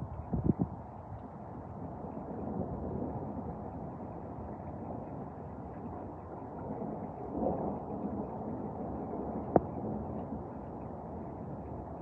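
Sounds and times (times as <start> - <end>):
low rumbling thunderstorm: 0.0 - 12.0.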